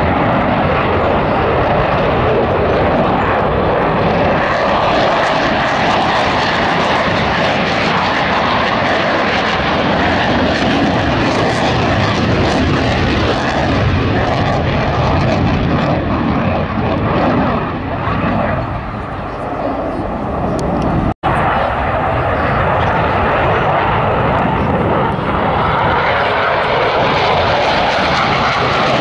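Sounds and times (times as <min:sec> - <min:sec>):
airplane engine noise: 0:00.0 - 0:29.0.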